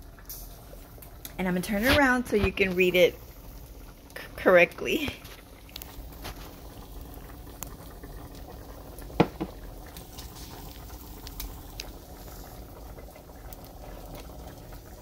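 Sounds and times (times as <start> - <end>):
food bubbling: 0.0 - 15.0.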